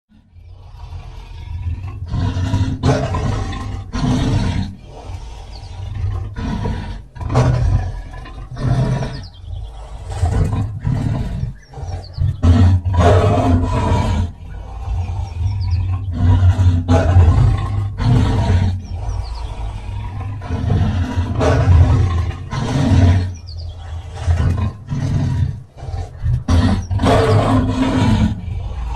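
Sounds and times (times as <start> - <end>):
big cat roaring and growling: 0.1 - 28.9.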